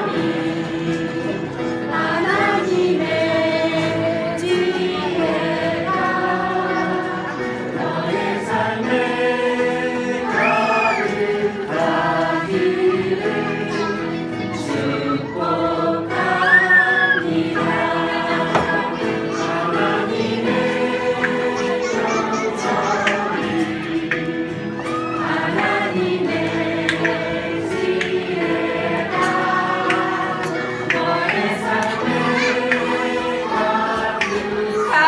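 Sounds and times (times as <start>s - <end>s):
men and women singing together: 0.0s - 35.0s.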